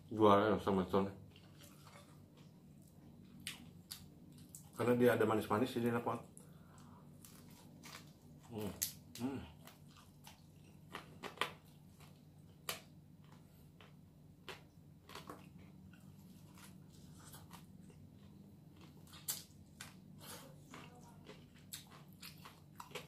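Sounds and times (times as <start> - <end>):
steady low hum: 0.0 - 23.0
chewing crispy food: 1.2 - 5.2, 5.8 - 23.0.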